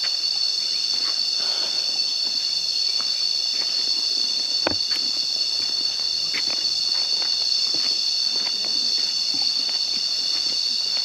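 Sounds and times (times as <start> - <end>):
cicadas and crickets singing: 0.0 - 11.0.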